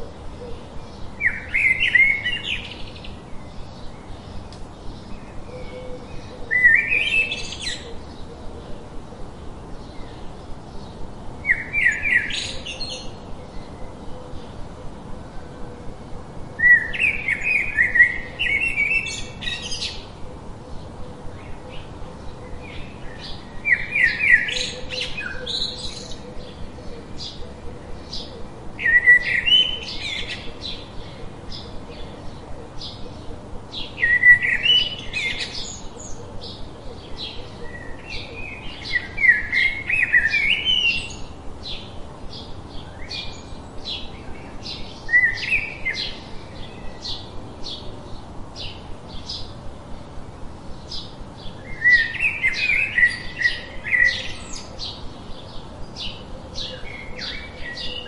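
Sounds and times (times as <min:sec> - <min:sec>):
bird warbling song: 0:00.0 - 0:15.8, 0:16.6 - 0:49.6, 0:50.7 - 0:58.0.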